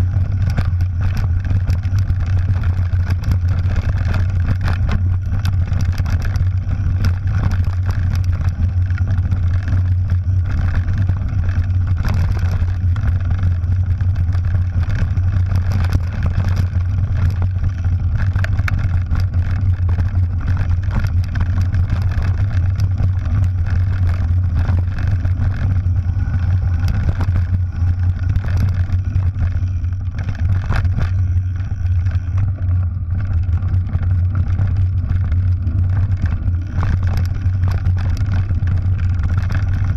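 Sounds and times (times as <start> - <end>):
bike clicks and rattles: 0.0 - 39.9
bike ride rumble: 0.0 - 39.9.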